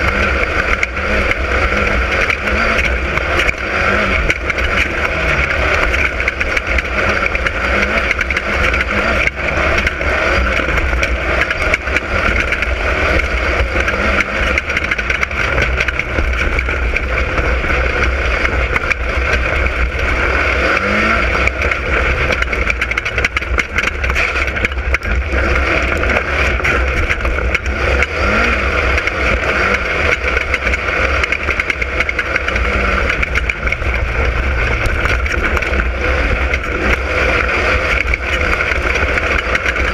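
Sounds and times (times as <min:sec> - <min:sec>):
heavy low rumble: 0:00.0 - 0:39.9
race car engine running flat out: 0:00.0 - 0:39.9.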